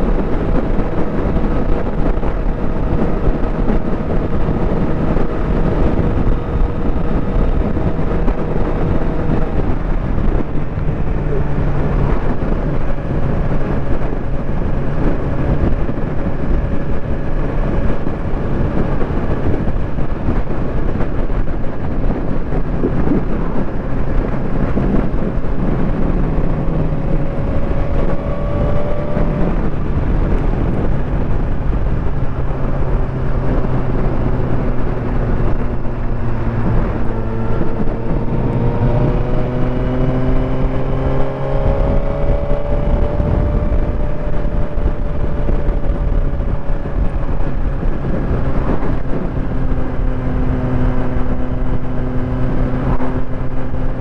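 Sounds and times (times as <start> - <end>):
motorcycle engine running: 0.0 - 54.0
wind rushing noise: 0.0 - 54.0.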